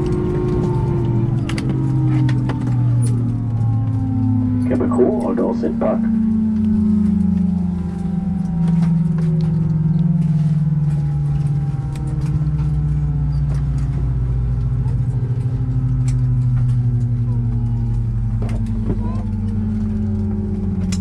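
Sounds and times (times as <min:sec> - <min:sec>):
jet engines winding down: 0:00.0 - 0:21.0.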